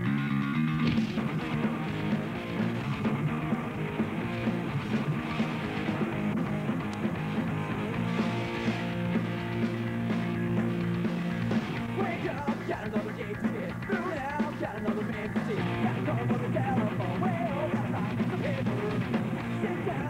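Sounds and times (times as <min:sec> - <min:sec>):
rock music with guitar: 0:00.0 - 0:20.0.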